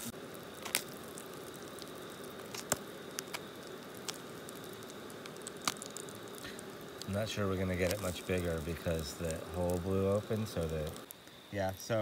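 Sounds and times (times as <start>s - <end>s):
camping stove burner hissing: 0.0s - 12.0s
popcorn kernels popping: 0.0s - 12.0s.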